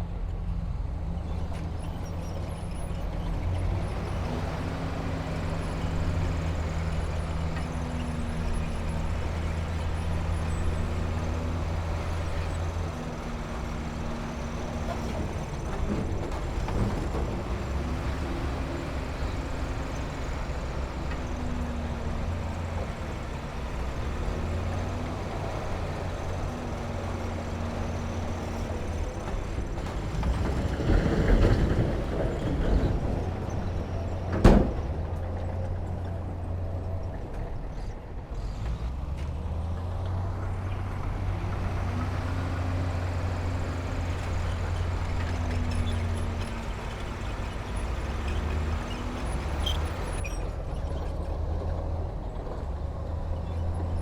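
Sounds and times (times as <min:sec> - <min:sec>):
heavy machinery diesel engine drone: 0:00.0 - 0:54.0.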